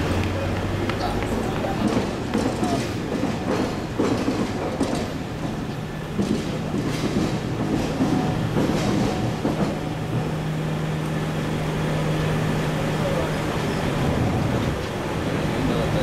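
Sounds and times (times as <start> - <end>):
road traffic passing: 0.0 - 16.0
streetcar wheels clacking on rails: 0.0 - 16.0.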